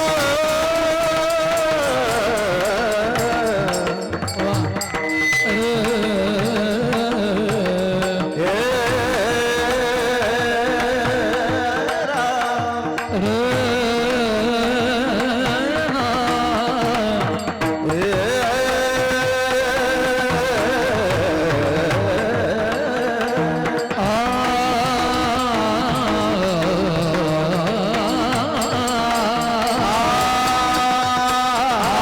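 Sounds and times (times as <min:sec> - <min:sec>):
instrumental accompaniment: 0:00.0 - 0:32.0
person singing ornamented melody: 0:00.0 - 0:32.0.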